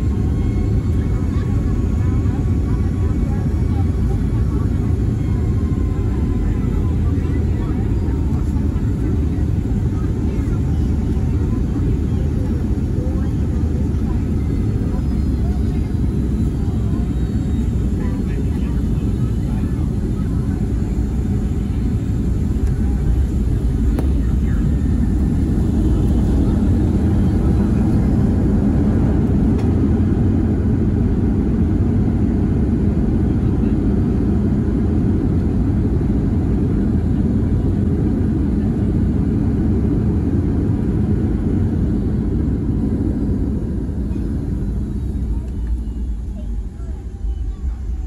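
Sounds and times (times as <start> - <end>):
jet engine noise in cabin: 0.0 - 48.0.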